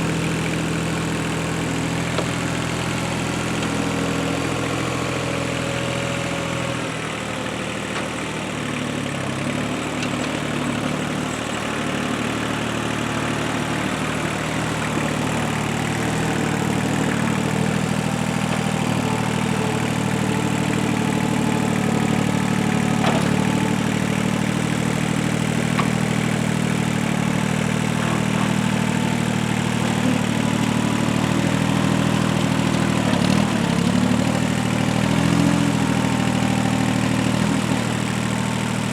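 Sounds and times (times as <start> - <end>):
heavy equipment engine running: 0.0 - 38.9.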